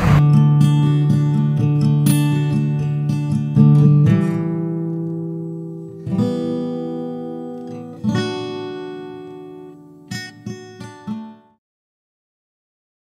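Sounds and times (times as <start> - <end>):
strummed guitar chords: 0.0 - 11.6.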